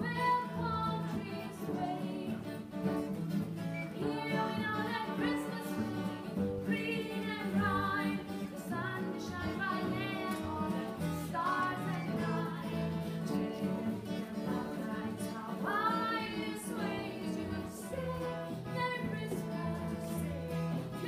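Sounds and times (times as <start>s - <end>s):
woman singing: 0.0s - 2.8s, 3.8s - 21.0s
strummed acoustic guitar: 0.0s - 21.0s.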